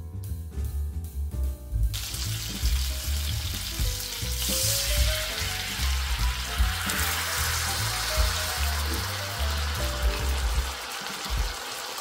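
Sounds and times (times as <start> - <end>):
background music with bass line: 0.0 - 11.6
food sizzling in a frying pan: 1.9 - 12.0.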